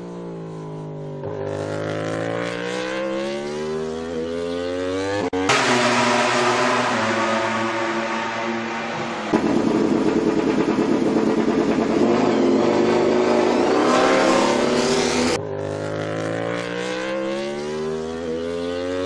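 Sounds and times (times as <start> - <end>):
racing motorcycle engine revving: 1.3 - 19.0.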